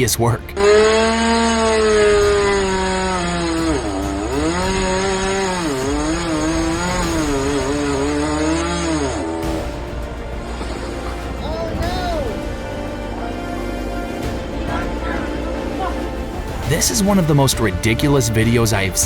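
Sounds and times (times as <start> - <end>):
chainsaw cutting at high revs: 0.6 - 18.6.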